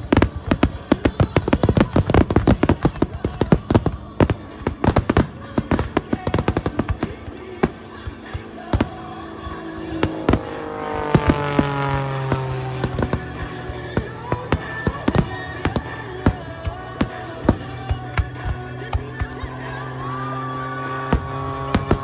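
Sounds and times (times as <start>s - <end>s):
fireworks crackling and booming: 0.0s - 22.0s
music: 0.0s - 22.0s.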